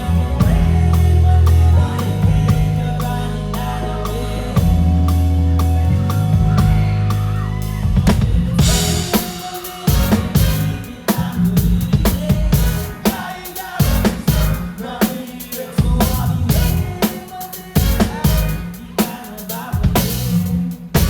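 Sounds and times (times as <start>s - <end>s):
drum kit beat: 0.0s - 21.0s
live band playing pop song: 0.0s - 21.0s.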